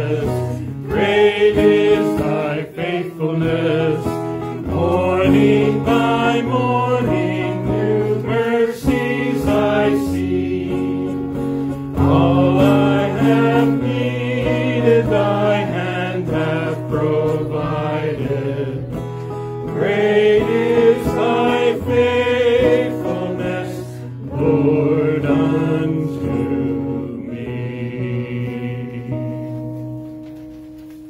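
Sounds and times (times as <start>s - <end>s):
man singing through microphone: 0.0s - 11.2s, 11.9s - 19.0s, 19.7s - 29.7s
group singing a hymn: 0.0s - 30.0s.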